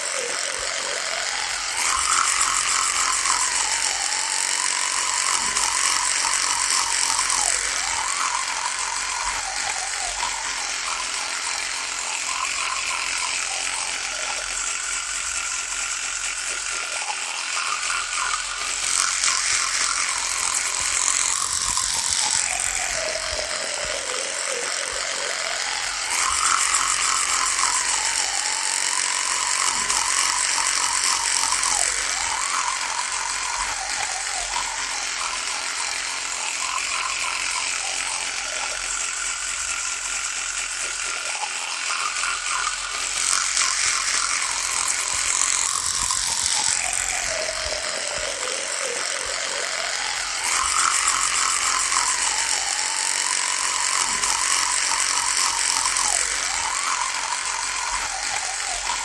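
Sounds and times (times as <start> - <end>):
electric toothbrush buzzing: 0.0 - 59.0.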